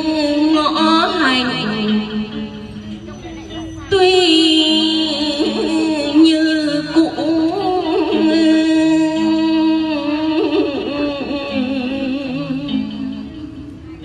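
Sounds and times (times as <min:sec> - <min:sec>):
plucked low lute notes: 0:00.0 - 0:14.0
woman chanting with wavering notes: 0:00.0 - 0:14.0.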